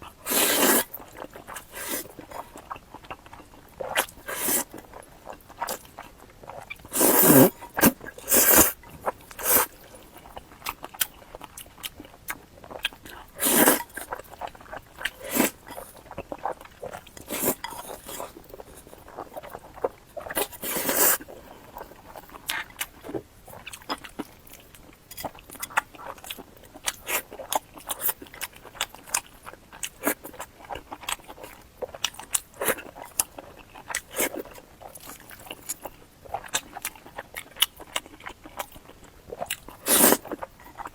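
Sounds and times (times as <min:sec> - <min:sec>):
chewing: 0:00.0 - 0:40.9.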